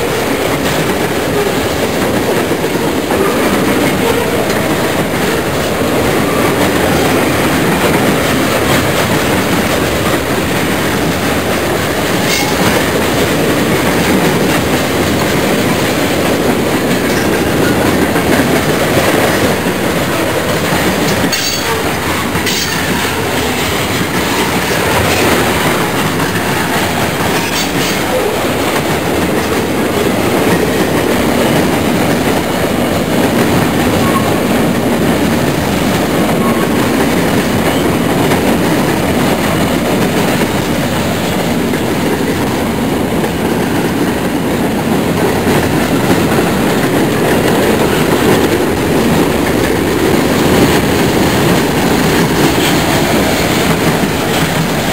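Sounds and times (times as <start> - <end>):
steel train wheels on rails: 0.0 - 54.9.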